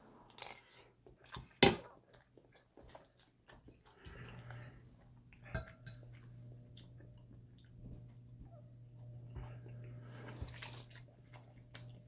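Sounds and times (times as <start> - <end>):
low steady hum: 0.0 - 12.0
soft chewing: 0.0 - 12.0.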